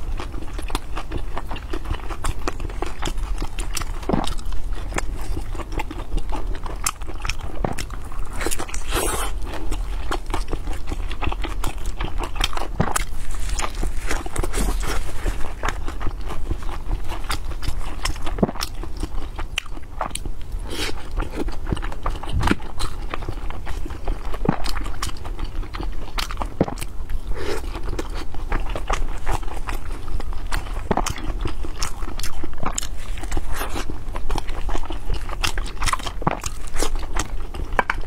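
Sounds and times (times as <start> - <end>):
biting and chewing: 0.0 - 38.0.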